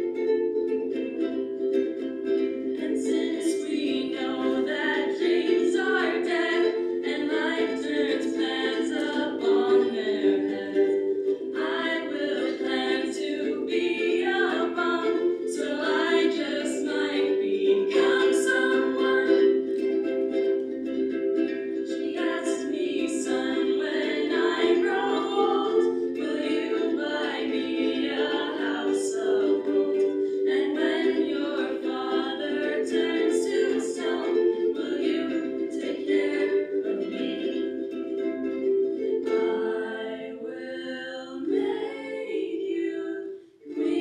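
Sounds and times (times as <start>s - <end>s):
ukuleles strumming chords: 0.0s - 44.0s
voices singing: 0.0s - 44.0s.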